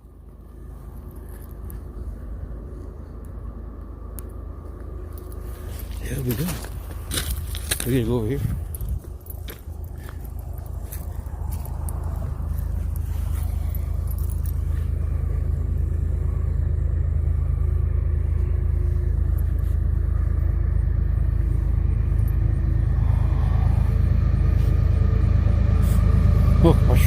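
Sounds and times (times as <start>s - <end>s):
diesel locomotive rumble: 0.0s - 27.0s.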